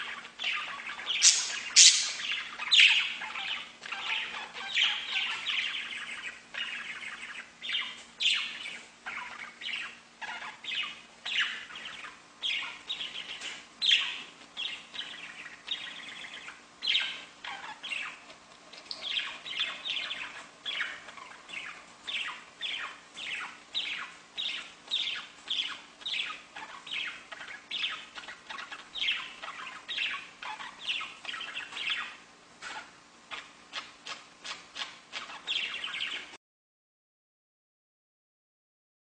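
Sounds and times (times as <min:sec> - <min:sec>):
budgerigars chirping: 0:00.0 - 0:36.4.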